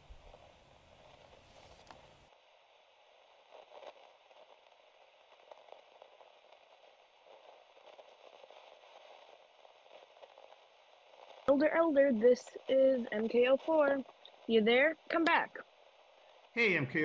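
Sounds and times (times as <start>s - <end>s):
light crackles: 0.0s - 17.0s
radio static hiss: 0.0s - 17.0s.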